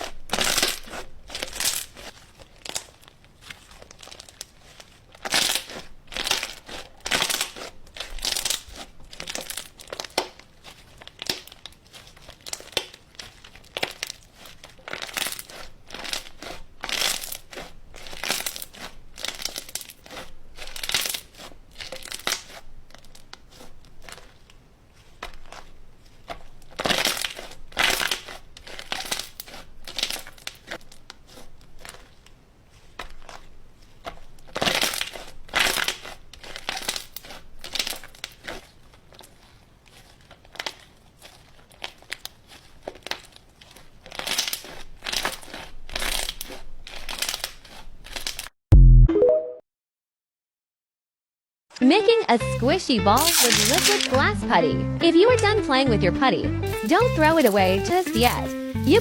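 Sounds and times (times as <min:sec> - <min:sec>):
slime squelching: 0:00.0 - 0:48.5, 0:52.6 - 0:54.4, 0:56.7 - 0:59.0.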